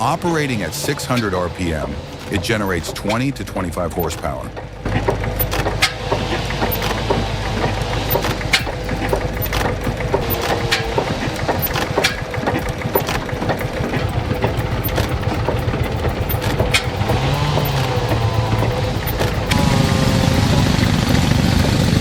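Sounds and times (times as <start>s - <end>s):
single-cylinder engine knocking: 0.0s - 22.0s.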